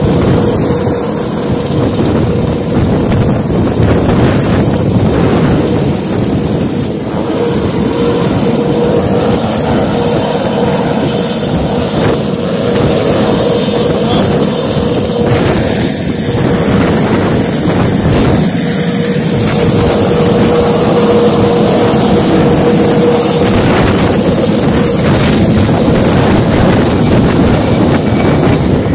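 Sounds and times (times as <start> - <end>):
helicopter flying low overhead: 0.0 - 28.9
high steady whine: 0.0 - 28.9.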